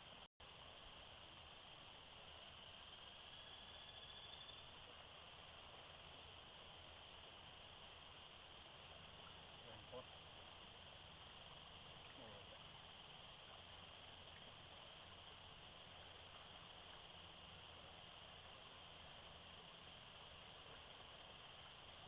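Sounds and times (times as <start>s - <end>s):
shrill insect chorus: 0.0s - 22.0s.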